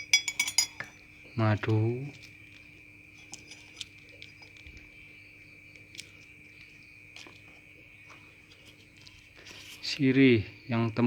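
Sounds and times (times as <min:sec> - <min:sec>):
high-pitched insect trilling: 0:00.0 - 0:11.0.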